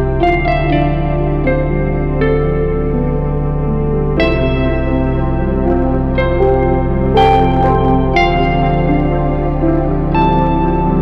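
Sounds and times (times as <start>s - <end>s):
ambient music with sustained chords: 0.0s - 11.0s
steady low drone: 0.0s - 11.0s.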